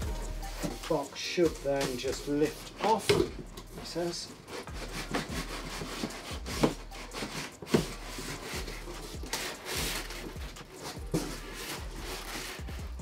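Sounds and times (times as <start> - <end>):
cardboard scraping against packing: 0.4 - 13.0.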